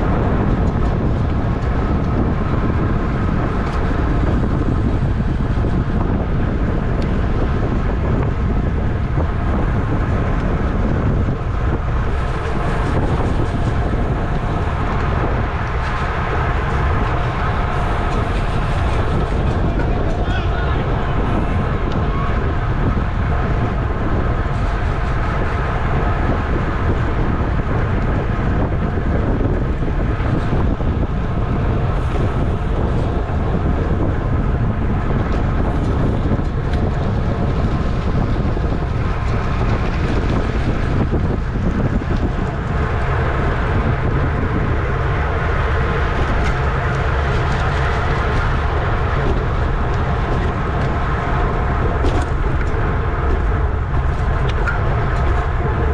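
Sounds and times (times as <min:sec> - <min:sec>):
wind rushing over camera: 0:00.0 - 0:55.9.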